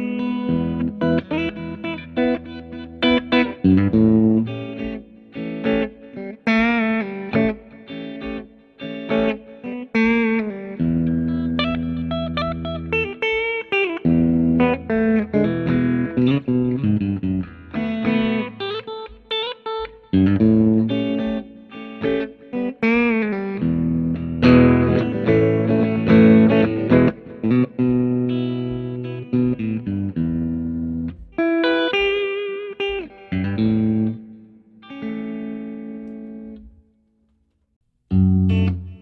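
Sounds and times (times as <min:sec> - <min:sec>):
electric guitar playing: 0:00.0 - 0:37.0, 0:38.1 - 0:39.0.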